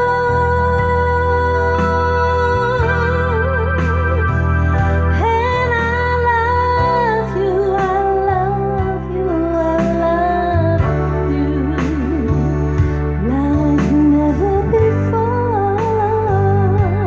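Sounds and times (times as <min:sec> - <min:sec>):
instrumental accompaniment: 0:00.0 - 0:17.0
woman singing with vibrato: 0:00.0 - 0:17.0.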